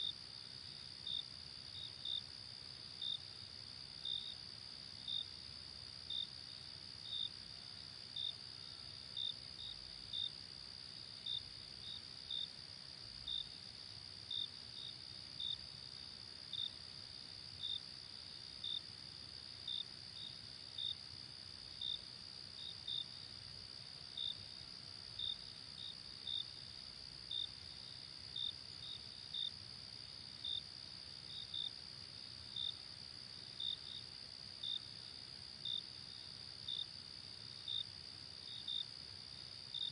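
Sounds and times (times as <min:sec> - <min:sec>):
faint low hiss: 0:00.0 - 0:39.9.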